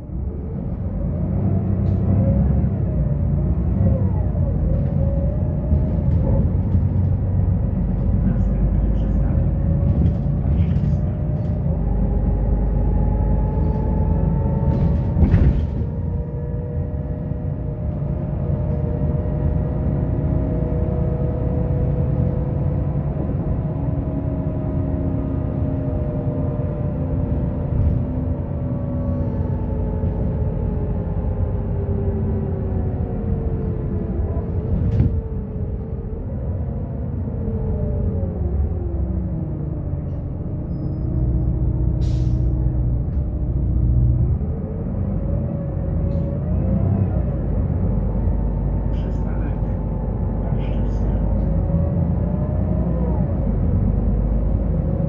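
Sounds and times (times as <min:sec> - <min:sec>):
bus engine drone and whine: 0:00.0 - 0:55.0.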